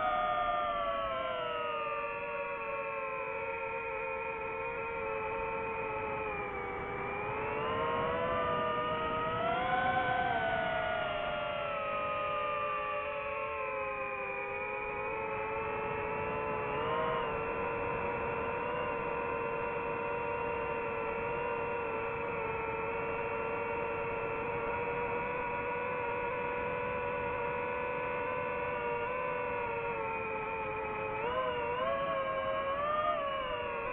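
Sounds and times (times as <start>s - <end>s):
drone propellers whining: 3.1s - 33.9s.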